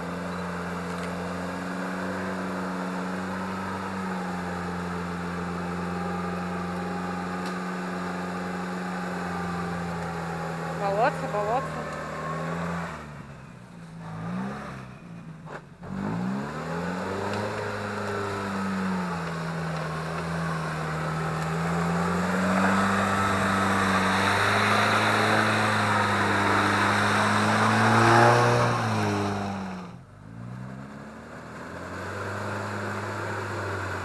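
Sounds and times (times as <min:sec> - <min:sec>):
off-road vehicle engine under load: 0:00.0 - 0:34.0.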